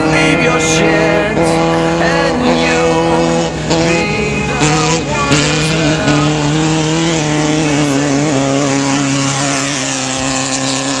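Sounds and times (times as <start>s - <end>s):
race car engine high revs: 0.0s - 11.0s.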